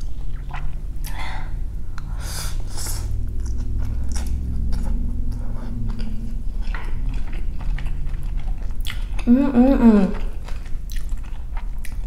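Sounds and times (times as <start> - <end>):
mouth chewing noodles: 0.0 - 1.2, 1.9 - 12.0.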